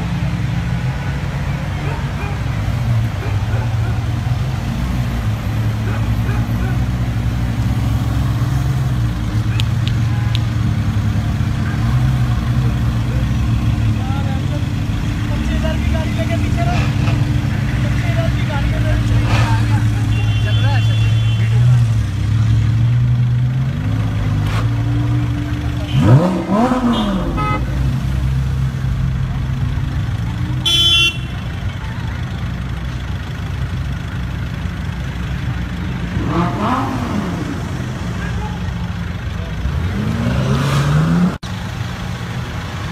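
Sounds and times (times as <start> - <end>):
car engine idling: 0.0 - 40.1.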